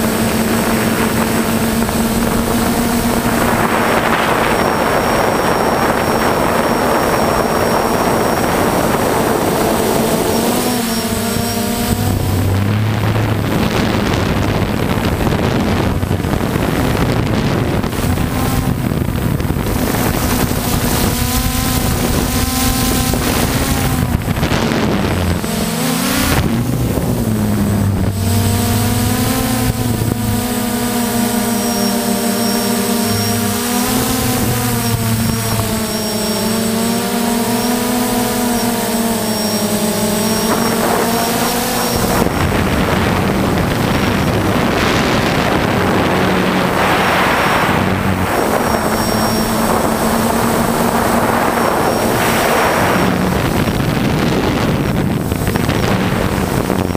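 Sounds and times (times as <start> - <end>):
drone propellers whirring: 0.0 - 56.9
wind noise on microphone: 0.0 - 56.9.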